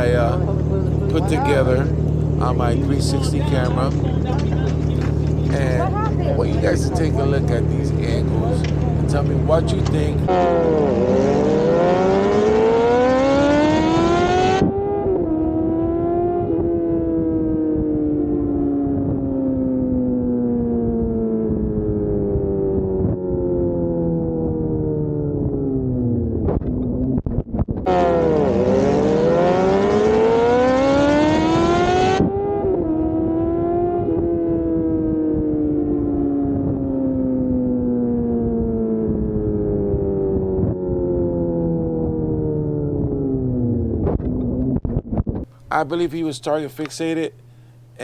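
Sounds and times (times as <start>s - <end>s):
motorcycle engine accelerating: 0.0s - 45.7s.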